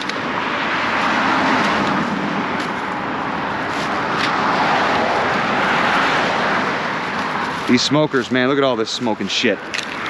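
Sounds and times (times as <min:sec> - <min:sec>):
passing cars: 0:00.0 - 0:10.0.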